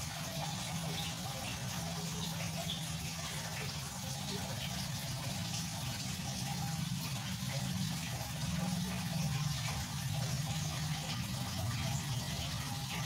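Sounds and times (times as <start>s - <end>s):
filter pump humming: 0.0s - 13.0s
flowing water hiss: 0.0s - 13.0s.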